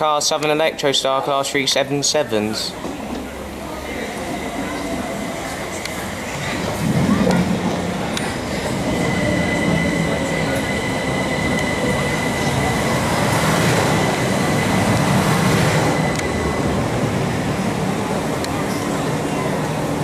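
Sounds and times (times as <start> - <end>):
train wheels rumbling on rail: 2.7 - 20.0.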